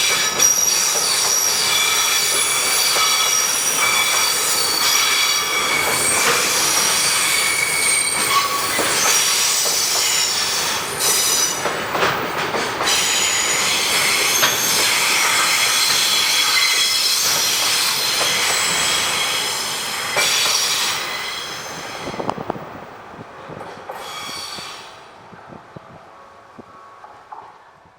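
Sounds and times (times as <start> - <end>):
train wheels squealing on rails: 0.0 - 22.6, 23.5 - 25.6.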